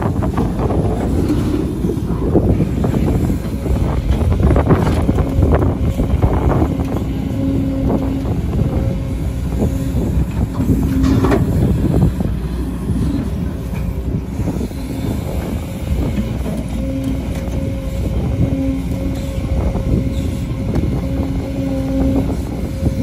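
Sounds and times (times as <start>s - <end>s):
excavator diesel engine: 0.0s - 23.0s
steady hydraulic whine: 0.0s - 23.0s.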